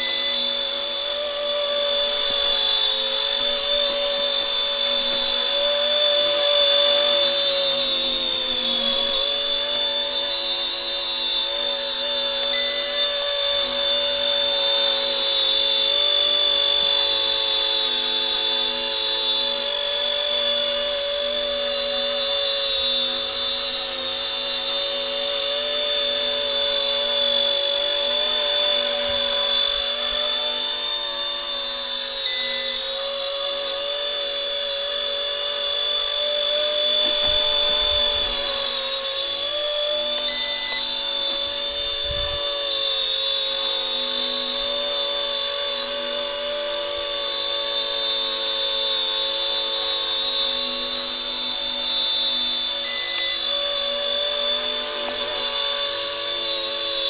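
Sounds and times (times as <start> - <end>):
micro helicopter rotors whining: 0.0 - 57.0.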